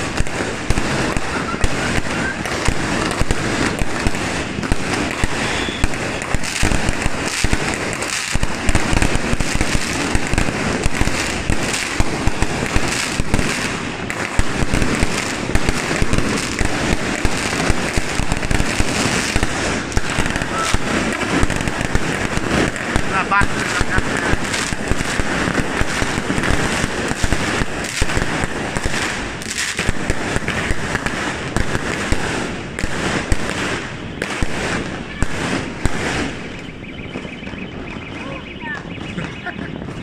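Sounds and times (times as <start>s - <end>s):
fireworks bangs and crackling: 0.0s - 40.0s.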